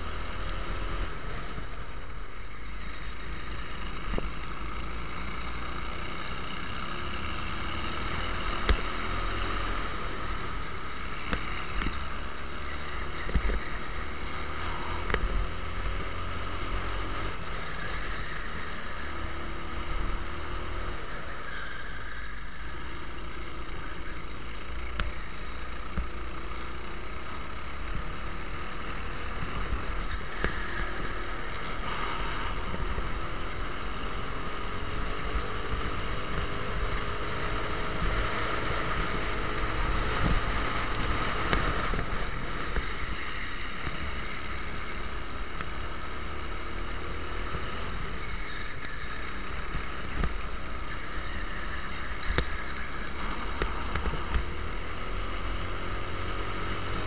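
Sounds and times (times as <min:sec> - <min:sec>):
kart engine running: 0:00.0 - 0:57.0.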